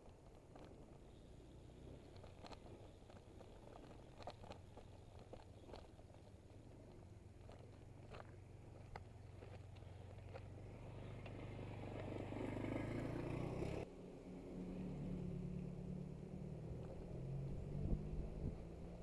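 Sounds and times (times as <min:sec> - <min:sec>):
low engine hum: 0:00.0 - 0:19.0
vehicle engine running: 0:00.5 - 0:19.0.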